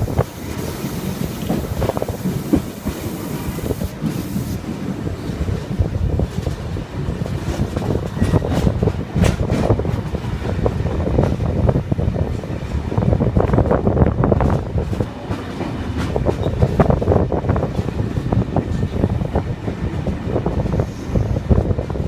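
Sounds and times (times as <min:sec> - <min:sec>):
train rumble and air rush: 0:00.0 - 0:22.0
train wheels clattering on rails: 0:00.0 - 0:22.0.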